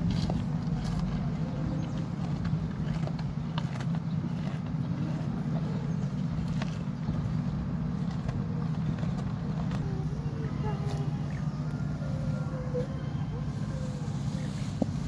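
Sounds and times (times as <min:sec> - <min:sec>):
bull chewing stalks: 0:00.0 - 0:15.0
low machine hum: 0:00.0 - 0:15.0.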